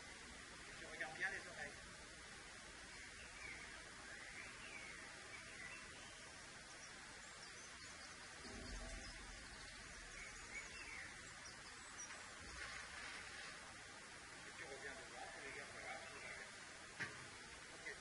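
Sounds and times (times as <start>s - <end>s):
background hiss: 0.0s - 18.0s
distant birds chirping: 0.0s - 18.0s.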